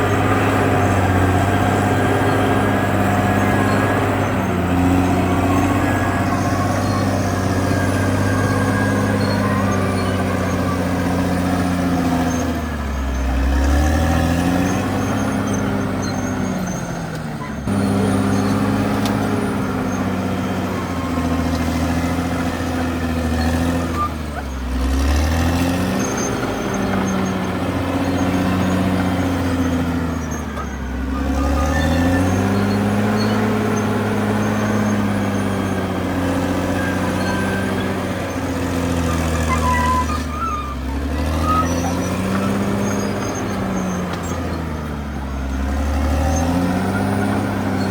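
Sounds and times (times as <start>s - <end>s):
bulldozer diesel engine running hard: 0.0s - 47.9s.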